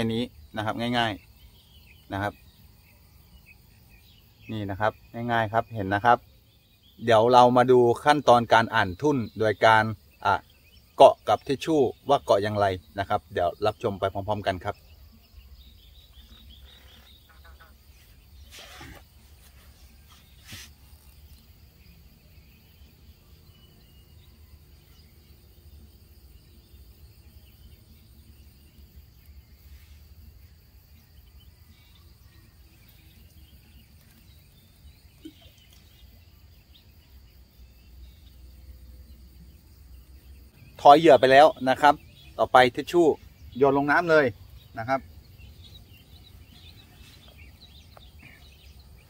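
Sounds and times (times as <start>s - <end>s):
insects: 0.0s - 49.0s.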